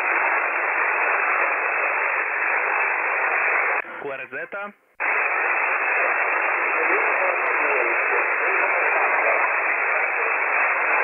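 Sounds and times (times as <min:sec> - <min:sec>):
shortwave radio hiss and static: 0:00.0 - 0:11.0.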